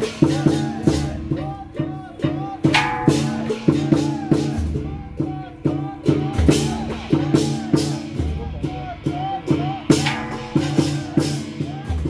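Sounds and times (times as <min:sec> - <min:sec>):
drum strikes: 0:00.0 - 0:12.0
ringing metal percussion: 0:00.0 - 0:12.0.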